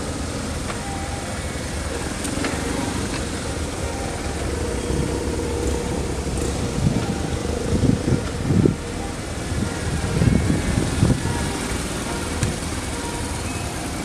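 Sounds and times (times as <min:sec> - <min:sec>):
motorcycles riding slowly past: 0:00.0 - 0:14.0.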